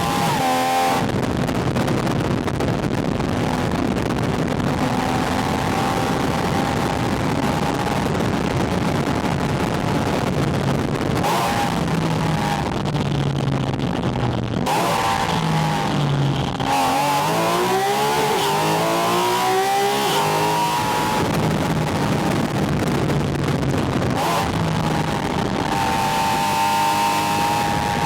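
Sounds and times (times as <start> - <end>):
sports car engine revving: 0.0 - 1.9, 3.3 - 13.0, 14.5 - 22.9, 23.6 - 28.0
wind on microphone: 0.0 - 28.0.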